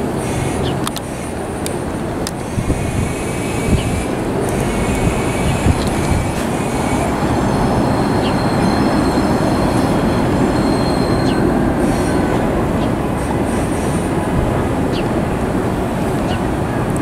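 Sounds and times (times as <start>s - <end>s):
high wheel squeal: 0.0s - 17.0s
train wheels rumbling on rails: 0.0s - 17.0s.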